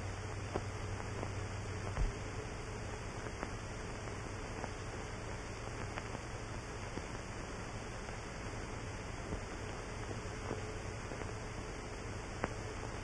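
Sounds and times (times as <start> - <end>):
faint crackle clicks: 0.0 - 13.0
film soundtrack hiss and hum: 0.0 - 13.0.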